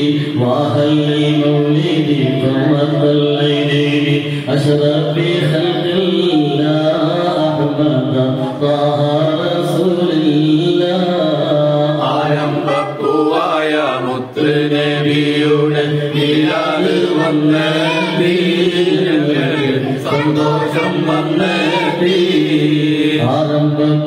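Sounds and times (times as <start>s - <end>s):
man chanting through microphone: 0.0s - 24.0s.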